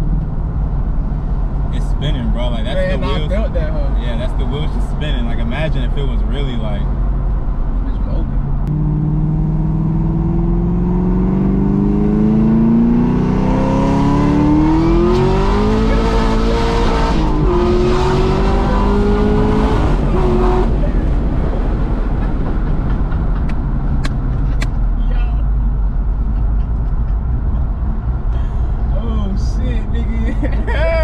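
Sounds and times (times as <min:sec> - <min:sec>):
car engine accelerating: 0:00.0 - 0:31.0
road and tyre noise: 0:00.0 - 0:31.0.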